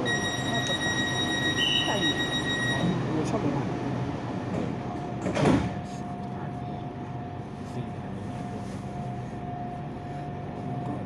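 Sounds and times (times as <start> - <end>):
train interior hum with whine: 0.0 - 11.0.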